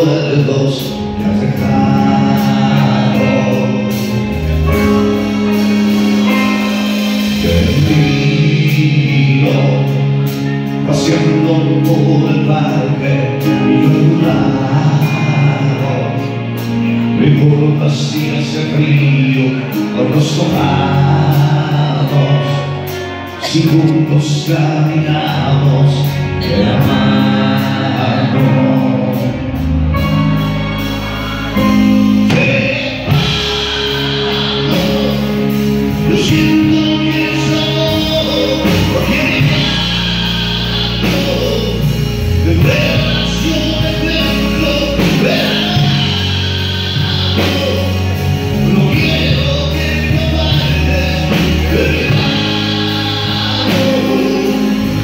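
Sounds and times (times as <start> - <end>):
live band playing: 0.0 - 55.0
man singing into a microphone: 0.0 - 55.0.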